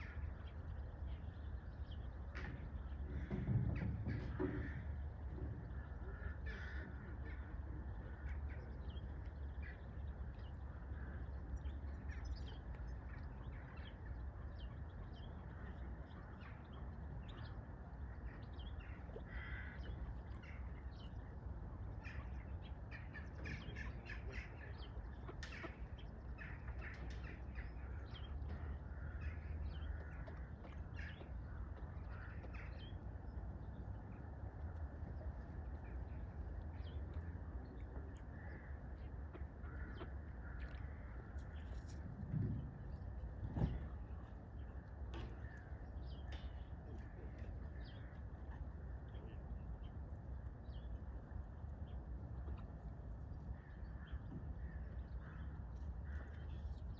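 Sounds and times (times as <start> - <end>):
birds calling: 0.0 - 56.9
steady low rumble: 0.0 - 56.9.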